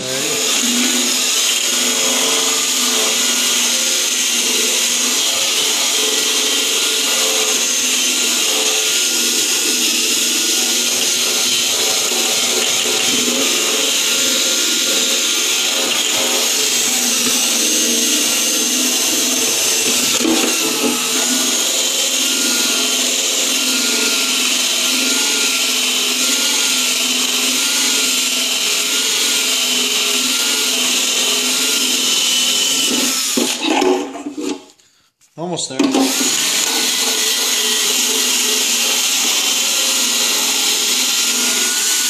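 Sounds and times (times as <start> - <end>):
drill motor whine: 0.0 - 34.6, 35.7 - 42.0.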